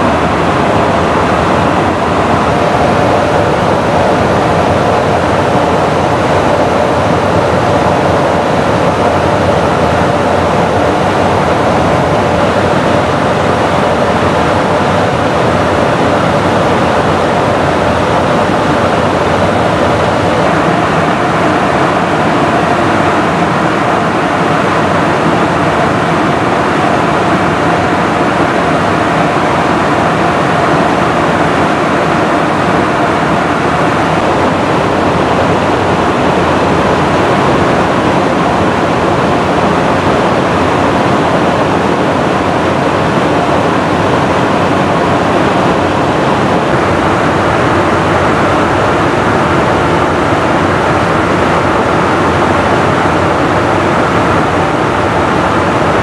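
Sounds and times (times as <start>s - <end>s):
jet engine noise: 0.0s - 56.0s
rushing airflow: 0.0s - 56.0s.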